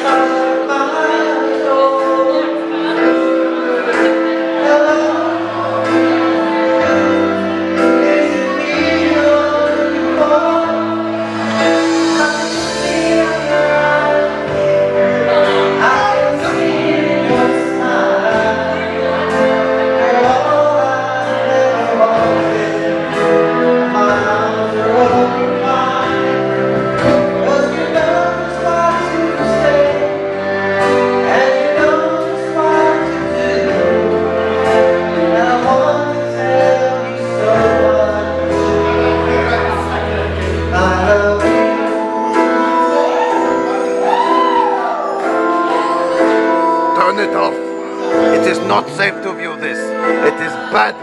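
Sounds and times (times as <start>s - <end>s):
man singing into a microphone: 0.0s - 51.0s.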